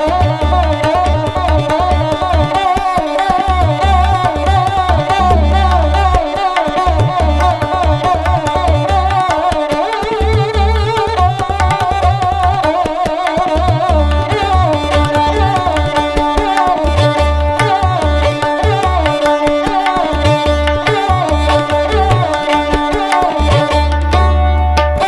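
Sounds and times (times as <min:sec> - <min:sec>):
hand drum beat: 0:00.0 - 0:25.0
ornamented instrumental melody: 0:00.0 - 0:25.0.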